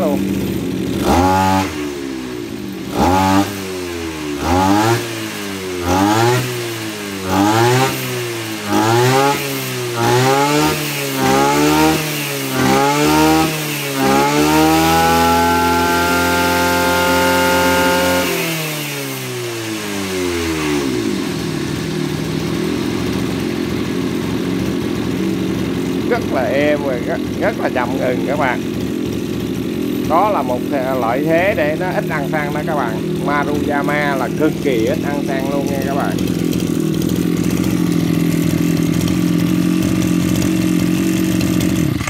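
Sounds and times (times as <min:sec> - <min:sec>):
brush cutter engine revving: 0:00.0 - 0:42.0.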